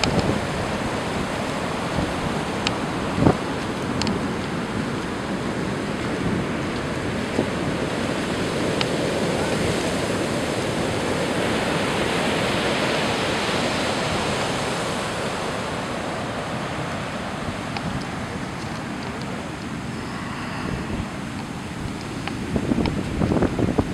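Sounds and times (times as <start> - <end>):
heavy surf breaking on beach: 0.0 - 23.9.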